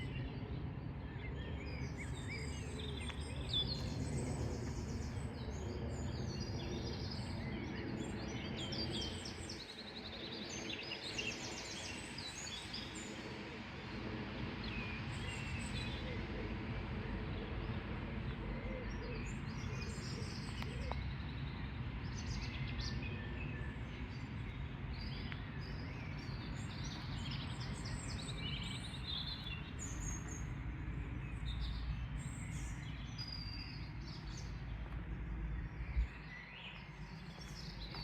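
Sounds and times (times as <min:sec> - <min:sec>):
small birds chirping: 0:01.0 - 0:38.0.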